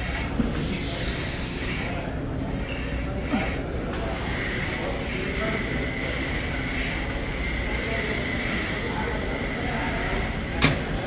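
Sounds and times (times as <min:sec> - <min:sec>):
gym background hum: 0:00.0 - 0:11.0.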